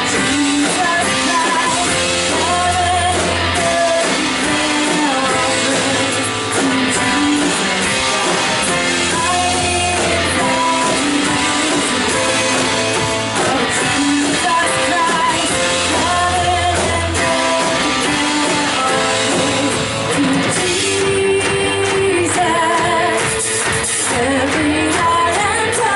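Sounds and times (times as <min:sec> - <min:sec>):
low bass notes: 0:00.0 - 0:23.2
drums: 0:00.0 - 0:25.9
guitar: 0:00.0 - 0:25.9
person singing: 0:00.0 - 0:25.9.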